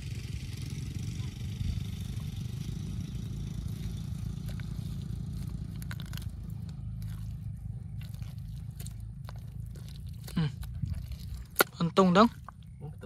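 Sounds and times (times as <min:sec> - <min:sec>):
steady low rumble: 0:00.0 - 0:13.0
digging into dry mud: 0:02.3 - 0:13.0.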